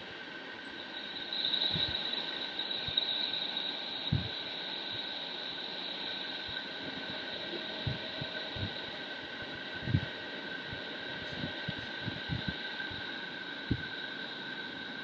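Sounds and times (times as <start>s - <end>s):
hissing drone: 0.0s - 15.0s.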